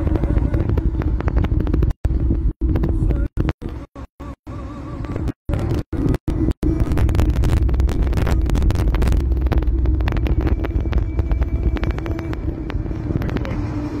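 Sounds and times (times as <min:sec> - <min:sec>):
crackles: 0:00.0 - 0:04.3, 0:04.9 - 0:14.0
car road and engine rumble: 0:00.0 - 0:14.0.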